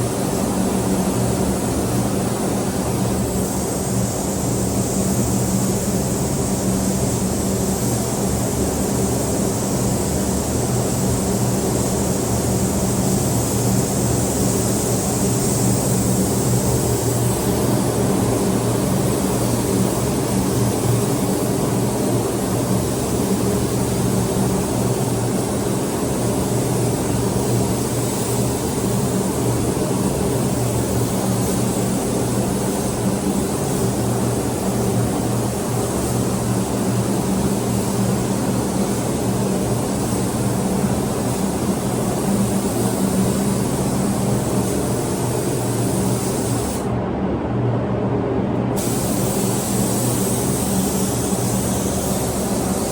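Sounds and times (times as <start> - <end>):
continuous hiss: 0.0 - 47.0, 48.7 - 52.9.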